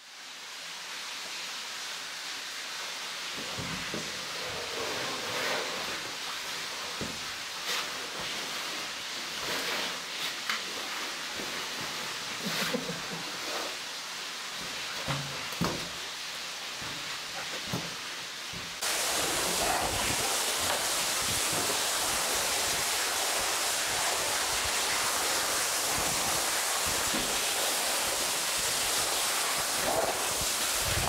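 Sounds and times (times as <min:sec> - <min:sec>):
underground waterfall rushing: 0:00.0 - 0:31.0.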